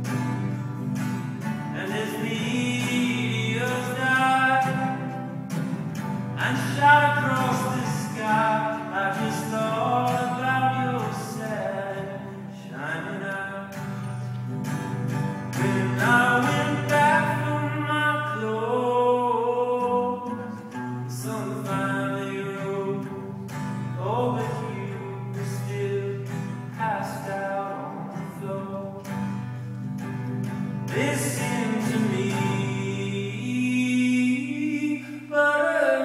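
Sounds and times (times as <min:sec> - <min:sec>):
acoustic guitar: 0:00.0 - 0:36.0
man singing: 0:01.6 - 0:05.4, 0:06.3 - 0:14.4, 0:15.4 - 0:29.1, 0:30.9 - 0:36.0.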